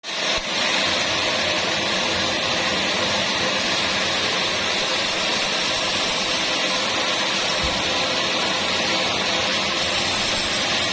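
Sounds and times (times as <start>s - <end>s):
sawmill machinery whirring: 0.0s - 10.9s.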